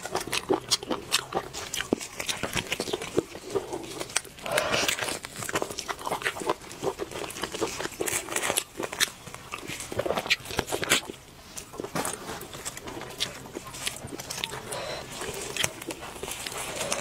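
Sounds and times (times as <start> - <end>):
wet chewing and lip smacks: 0.0 - 17.0.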